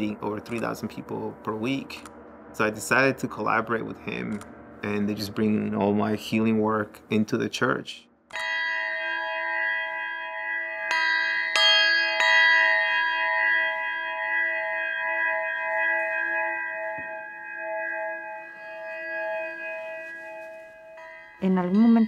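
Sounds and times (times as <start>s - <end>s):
singing bowls ringing: 0.0s - 7.0s, 8.3s - 22.0s.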